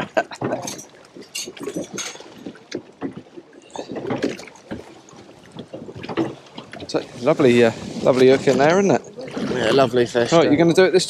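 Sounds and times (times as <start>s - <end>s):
water slapping against boat: 0.0s - 11.0s.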